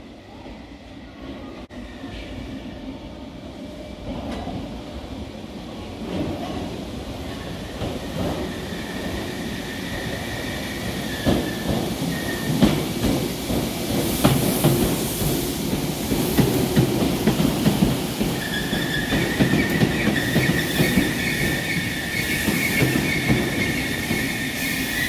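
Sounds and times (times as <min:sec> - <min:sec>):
train approaching in tunnel: 0:00.0 - 0:25.0.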